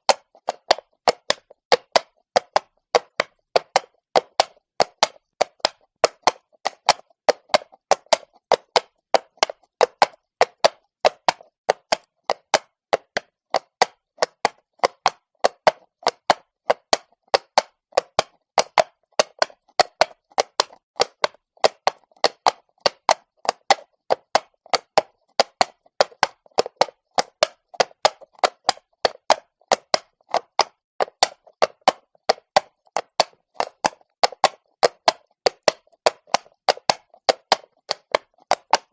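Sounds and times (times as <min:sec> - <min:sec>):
horse hooves clopping on stone: 0:00.0 - 0:38.9.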